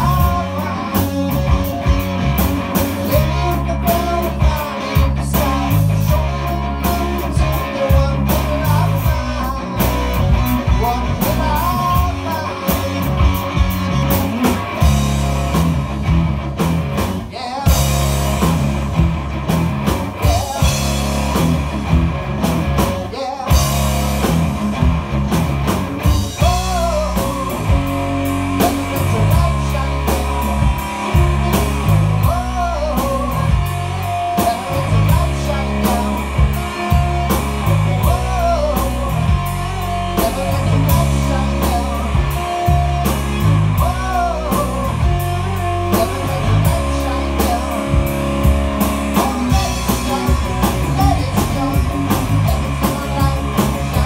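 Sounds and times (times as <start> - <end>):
drum kit: 0.0 - 54.0
electric bass: 0.0 - 54.0
electric guitars: 0.0 - 54.0.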